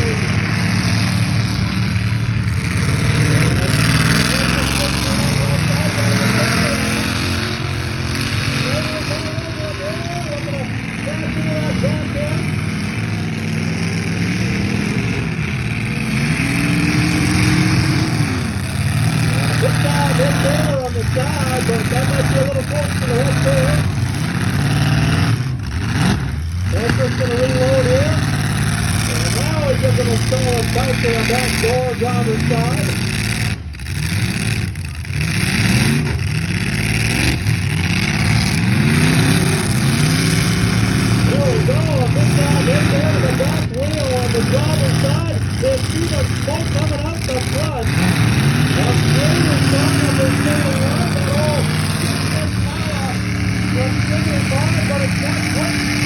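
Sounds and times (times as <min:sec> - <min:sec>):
car engines running and revving: 0:00.0 - 0:56.0.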